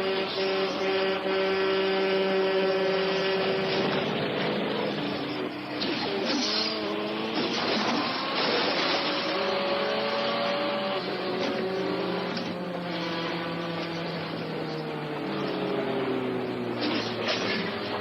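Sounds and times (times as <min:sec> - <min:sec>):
road noise: 0:00.0 - 0:18.0
vehicle engines on highway: 0:00.0 - 0:18.0.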